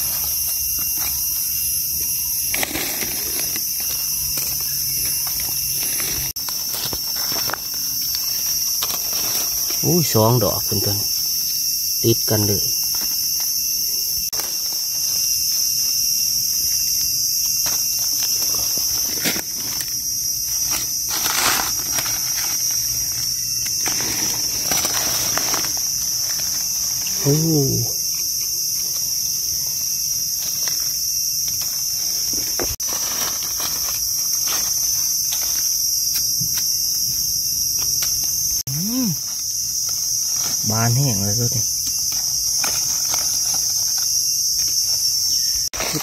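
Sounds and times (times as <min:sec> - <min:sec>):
dry leaves rustling: 0:00.0 - 0:12.0, 0:12.7 - 0:38.5, 0:39.2 - 0:46.0
insects shrilling: 0:00.0 - 0:46.0.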